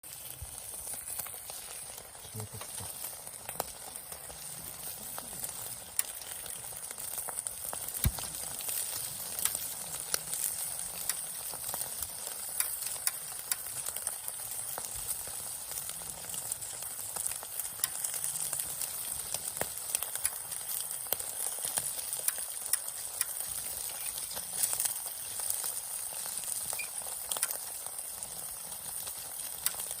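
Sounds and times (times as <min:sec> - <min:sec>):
campfire crackling and popping: 0:00.0 - 0:30.0
high sizzling hiss: 0:00.1 - 0:30.0.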